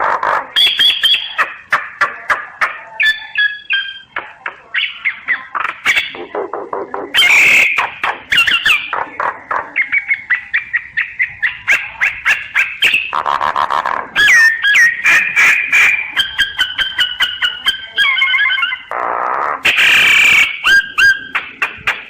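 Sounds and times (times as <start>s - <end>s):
myna chattering and whistling: 0.0s - 22.0s.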